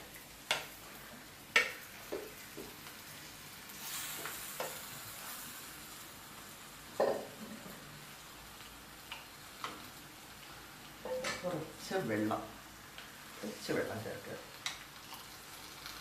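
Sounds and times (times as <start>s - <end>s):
soft sizzle: 0.0s - 16.0s.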